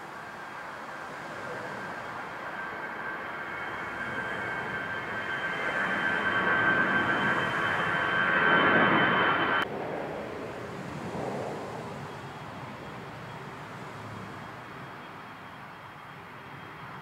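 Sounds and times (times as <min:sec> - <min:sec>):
distant jet noise: 0:00.0 - 0:17.0
jet airliner climbing overhead: 0:00.0 - 0:17.0.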